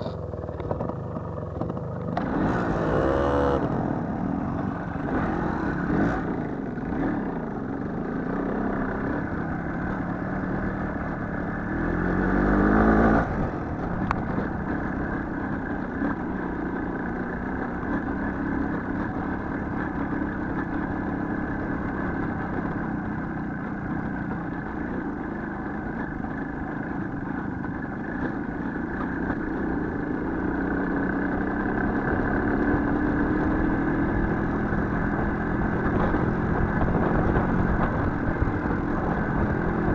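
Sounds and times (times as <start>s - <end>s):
small motorcycle engine revving: 0.0s - 22.7s, 26.4s - 39.9s.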